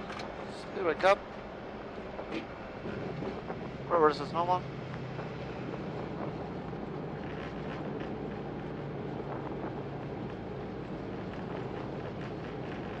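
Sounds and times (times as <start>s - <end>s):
jet engines and airflow rushing: 0.0s - 13.0s.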